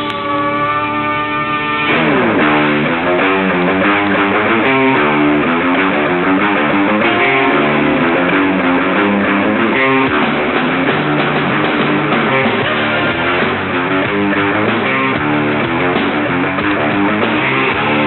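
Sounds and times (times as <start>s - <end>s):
hard rock song with guitar: 0.0s - 18.0s.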